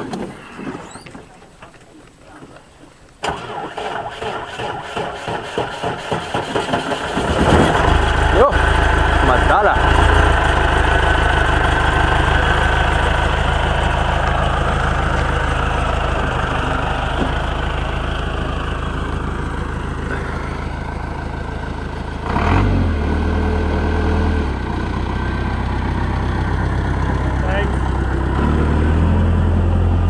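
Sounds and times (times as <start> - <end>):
vehicle engine humming: 5.2 - 30.0.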